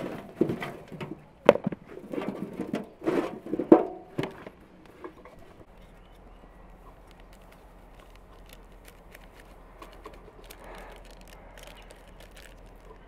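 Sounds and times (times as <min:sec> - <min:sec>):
potatoes knocking and clattering: 0:00.0 - 0:05.5, 0:07.1 - 0:13.0.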